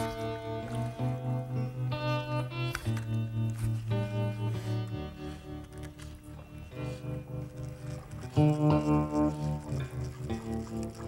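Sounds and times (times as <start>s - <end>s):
background music with low notes: 0.0s - 11.0s.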